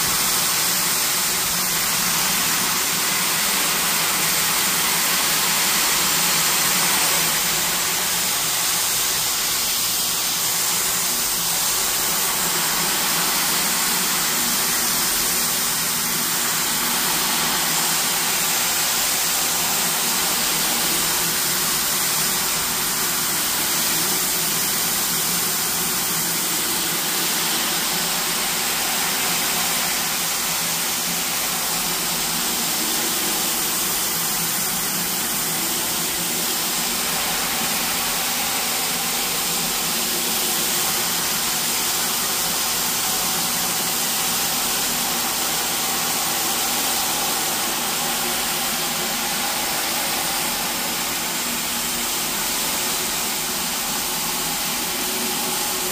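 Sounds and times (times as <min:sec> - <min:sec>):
rug-cleaning machine running: 0:00.0 - 0:55.9.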